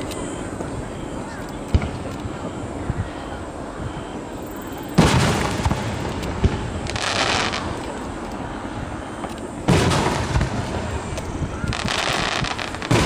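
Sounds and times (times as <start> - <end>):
firework shells booming: 0.0 - 3.1, 3.8 - 13.0.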